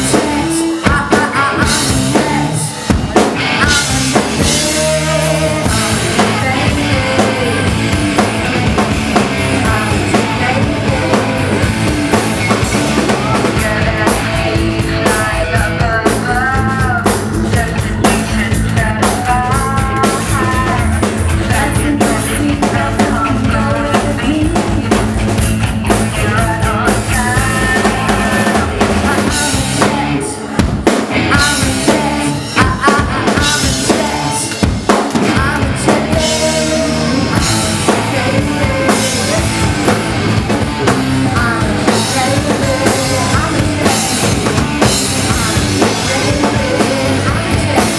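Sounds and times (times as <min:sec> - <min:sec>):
drum kit: 0:00.0 - 0:47.9
rock band playing live: 0:00.0 - 0:47.9.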